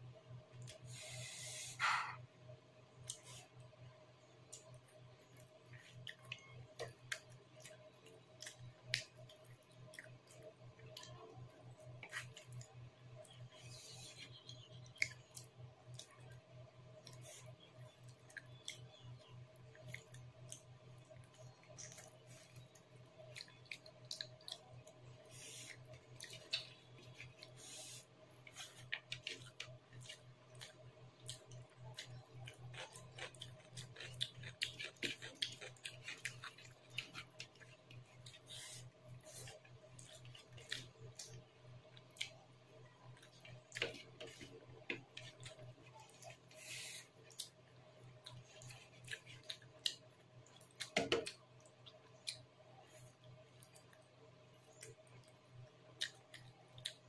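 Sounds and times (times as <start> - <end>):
faint low hum: 0.0 - 57.0
chewing and mouth smacks: 4.5 - 11.2, 14.2 - 27.6, 28.4 - 46.6, 47.2 - 57.0.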